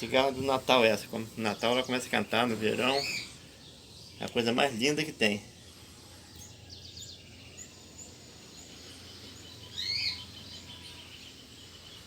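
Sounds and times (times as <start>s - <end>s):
birds chirping: 0.0s - 12.0s
faint outdoor background: 0.0s - 12.0s.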